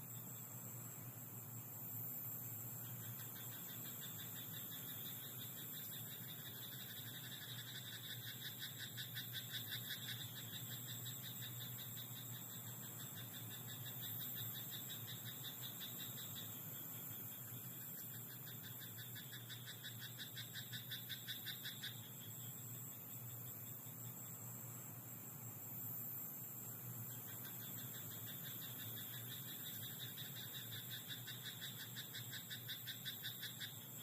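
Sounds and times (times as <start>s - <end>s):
frogs croaking: 0.0s - 34.0s.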